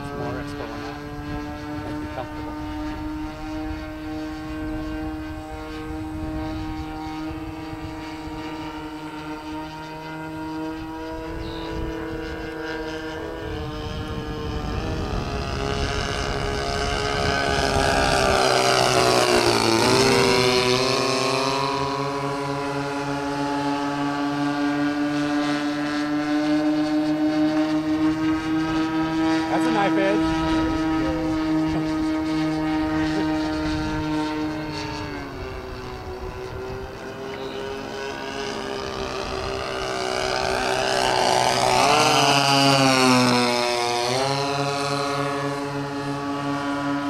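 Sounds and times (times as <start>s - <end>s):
model plane engines flying past: 0.0s - 47.0s.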